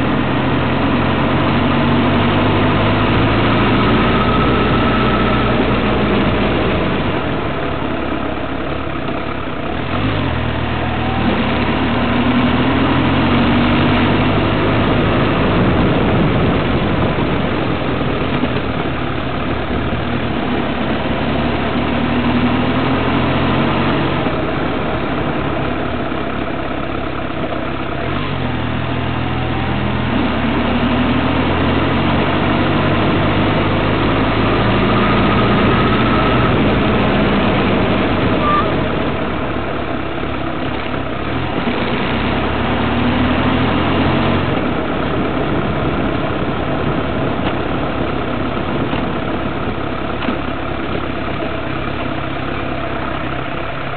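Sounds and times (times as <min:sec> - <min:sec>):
road and wind noise: 0:00.0 - 0:53.9
vehicle engine accelerating: 0:00.0 - 0:53.9.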